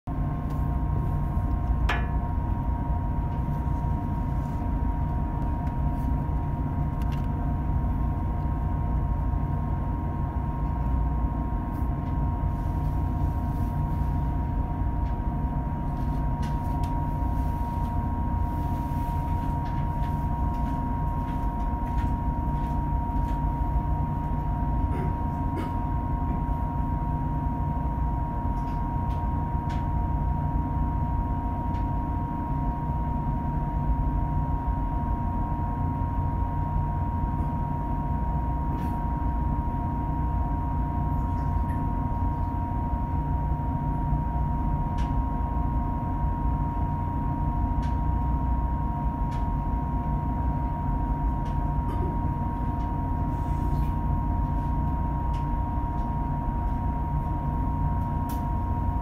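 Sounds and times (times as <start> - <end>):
boat engine droning with whine: 0.1 - 59.0.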